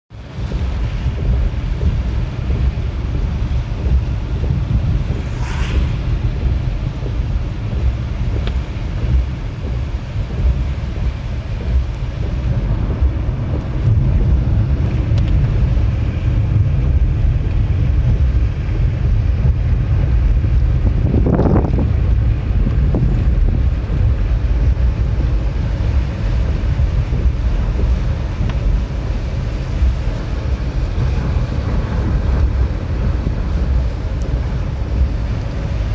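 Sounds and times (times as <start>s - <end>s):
strong wind buffeting microphone: 0.1s - 35.9s.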